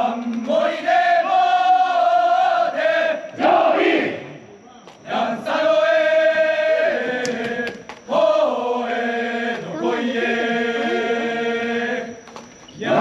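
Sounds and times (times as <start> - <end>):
group of men chanting: 0.0 - 4.3, 5.0 - 12.2, 12.8 - 13.0.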